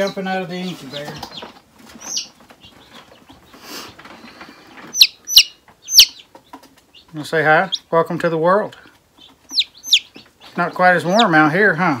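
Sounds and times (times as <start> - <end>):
chick peeping: 0.0 - 11.8.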